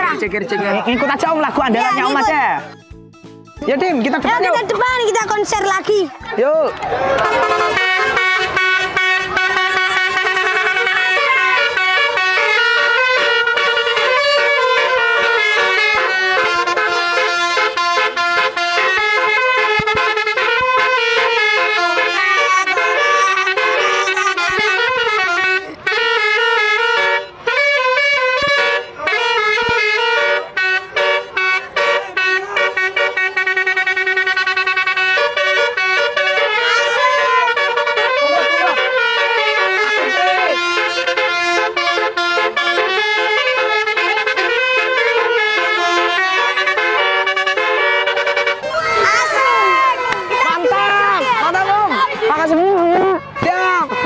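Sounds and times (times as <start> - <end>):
bus multi-tone horn melody: 0.0 - 5.9, 6.9 - 54.0.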